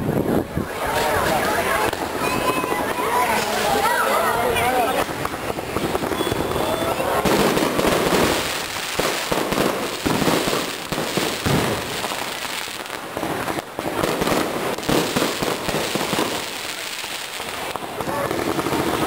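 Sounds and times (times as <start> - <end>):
fireworks bangs: 0.0 - 19.0
fireworks crackling and popping: 0.0 - 19.0.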